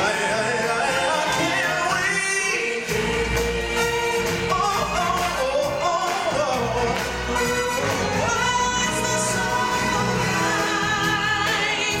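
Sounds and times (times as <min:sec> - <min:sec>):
loud stage music accompaniment: 0:00.0 - 0:12.0
singers with chorus: 0:00.0 - 0:12.0.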